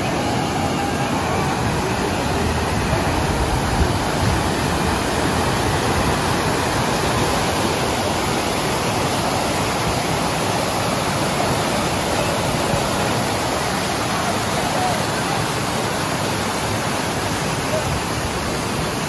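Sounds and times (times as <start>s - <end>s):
water rushing over a weir: 0.0s - 19.0s.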